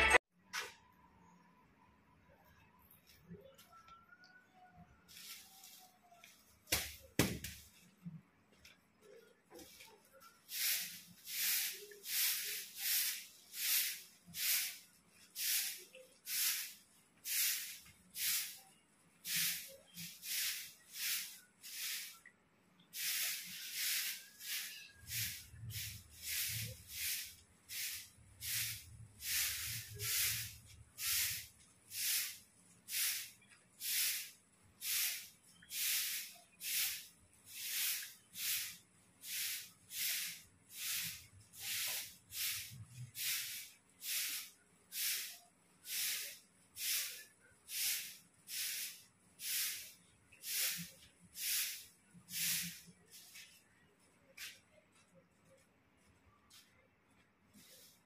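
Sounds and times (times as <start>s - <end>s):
broom sweeping concrete: 5.1s - 7.9s, 9.0s - 22.3s, 22.9s - 53.7s, 57.5s - 58.0s.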